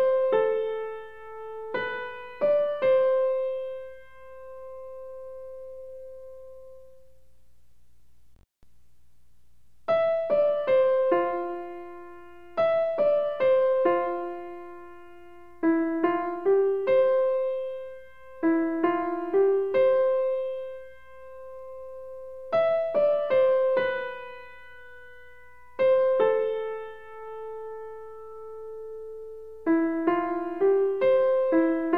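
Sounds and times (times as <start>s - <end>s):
slow solo piano melody: 0.0s - 7.2s, 9.9s - 31.9s.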